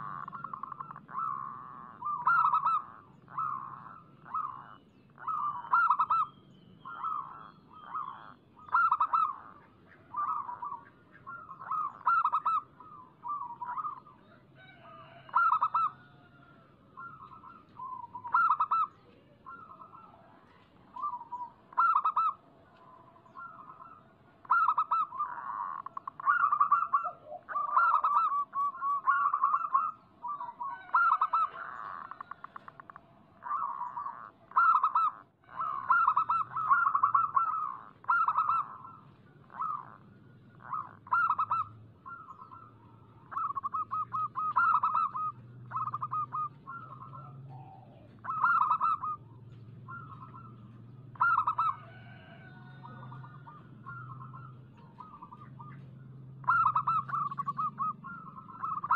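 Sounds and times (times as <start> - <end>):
doves cooing: 0.0 - 58.9.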